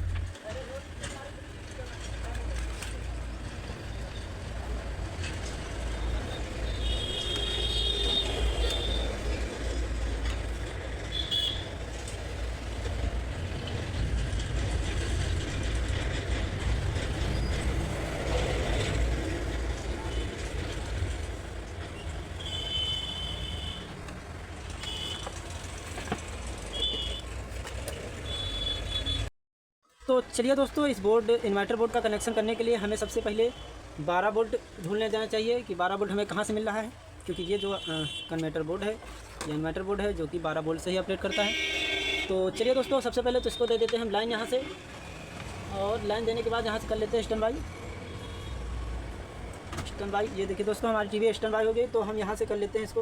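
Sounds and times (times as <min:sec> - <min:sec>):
low rumble of traffic: 0:00.0 - 0:29.3, 0:30.1 - 0:53.0.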